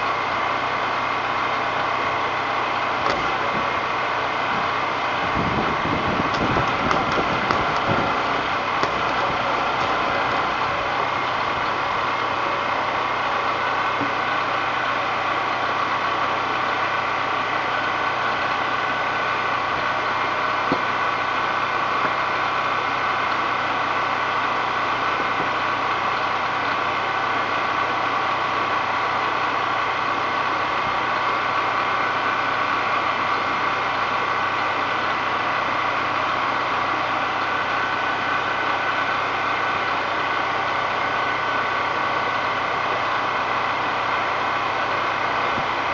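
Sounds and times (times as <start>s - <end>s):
small engine running steadily: 0.0s - 45.9s.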